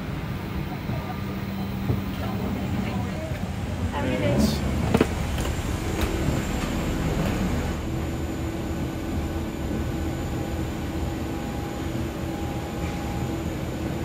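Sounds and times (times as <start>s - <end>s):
parked airliner rumble: 0.0s - 14.0s
steady hum: 0.0s - 14.0s.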